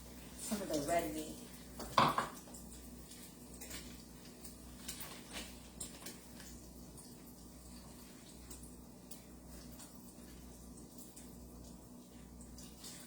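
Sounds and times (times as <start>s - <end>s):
chicken frying in hot oil: 0.0s - 13.0s
oil crackles and pops: 0.0s - 13.0s.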